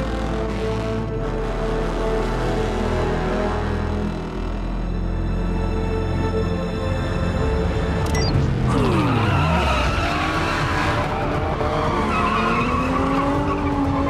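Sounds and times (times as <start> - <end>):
film score music: 0.0 - 14.0.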